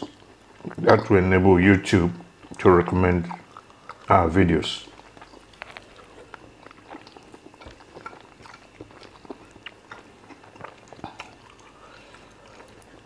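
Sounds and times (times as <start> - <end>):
wet chewing: 0.0 - 4.2, 4.8 - 13.0.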